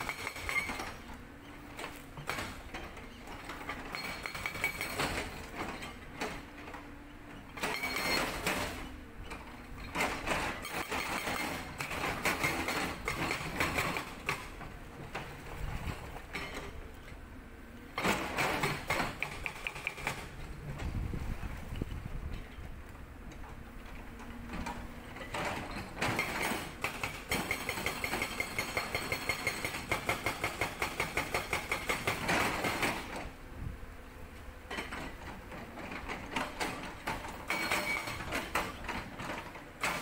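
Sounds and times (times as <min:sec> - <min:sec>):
hydraulic breaker hammering rock: 0:00.0 - 0:01.1, 0:01.8 - 0:06.8, 0:07.5 - 0:16.8, 0:18.0 - 0:20.8, 0:24.6 - 0:33.3, 0:34.7 - 0:40.0.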